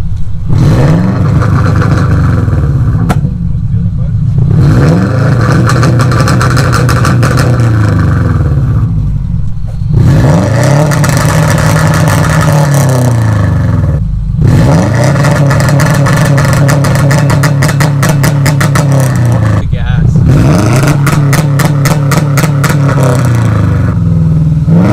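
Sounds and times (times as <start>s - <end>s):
car engine revving to limiter: 0.0s - 24.9s.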